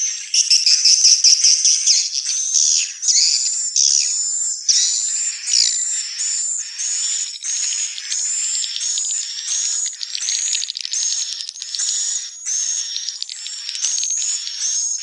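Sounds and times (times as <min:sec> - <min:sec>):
birds twittering chirps: 0:00.0 - 0:15.0.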